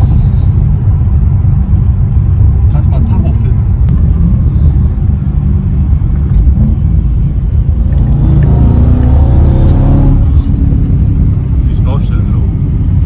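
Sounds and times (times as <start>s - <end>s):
car engine pulling hard: 0.0s - 13.0s
low road rumble: 0.0s - 13.0s.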